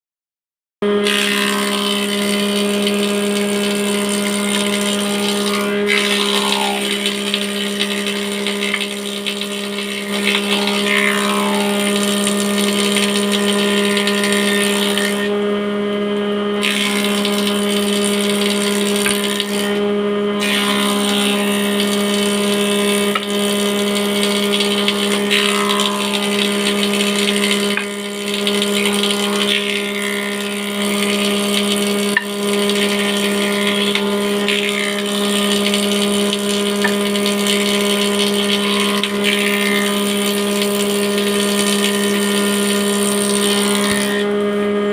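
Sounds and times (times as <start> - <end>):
motor hum: 0.8 - 44.9
saw cutting wood: 0.8 - 44.9.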